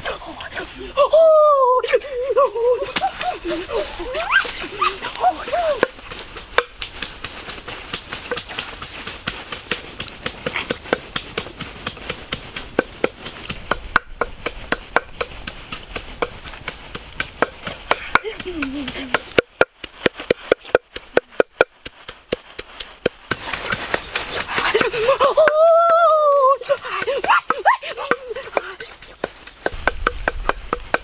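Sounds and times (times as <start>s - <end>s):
wooden pestle pounding in mortar: 5.8s - 31.0s.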